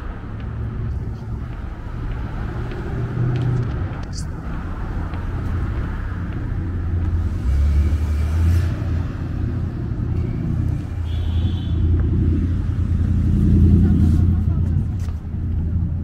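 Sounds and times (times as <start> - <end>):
car engines passing: 0.0 - 16.0.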